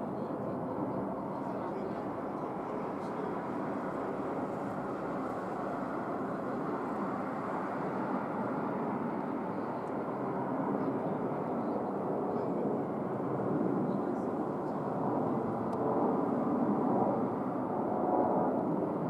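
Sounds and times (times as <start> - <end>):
jet engines rushing: 0.9 - 19.0.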